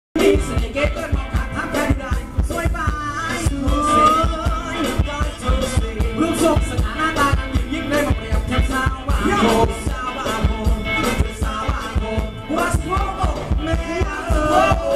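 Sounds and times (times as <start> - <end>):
heavy steady drum beat: 0.2 - 14.9
live band dance music: 0.2 - 14.9
person singing melody: 0.2 - 14.9.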